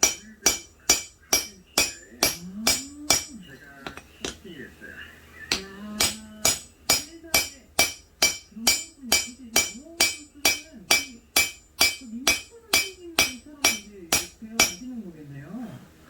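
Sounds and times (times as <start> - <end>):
hammer striking steel on anvil: 0.0 - 4.4, 5.5 - 14.9.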